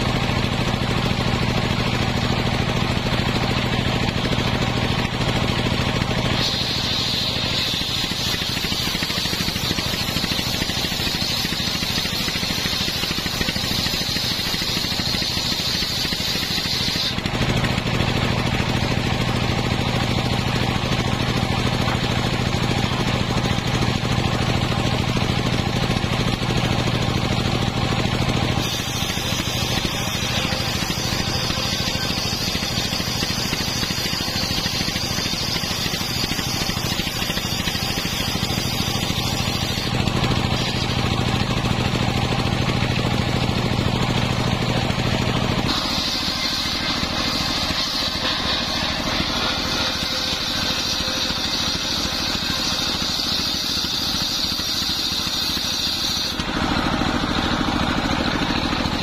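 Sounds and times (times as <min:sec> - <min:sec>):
circular saw blade spinning: 0:00.0 - 0:59.0
engine running: 0:00.0 - 0:59.0
saw blade cutting wood: 0:00.0 - 0:59.0.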